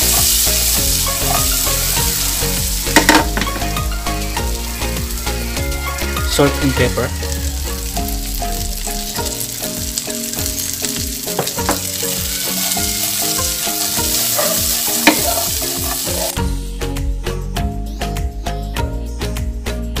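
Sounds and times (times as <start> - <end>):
vegetables sizzling in frying pan: 0.0 - 16.4
background music with steady beat: 0.0 - 20.0.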